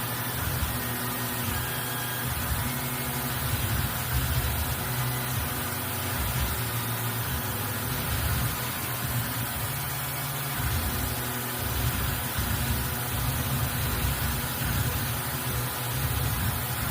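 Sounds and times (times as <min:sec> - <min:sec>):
milling machine humming: 0:00.0 - 0:16.9.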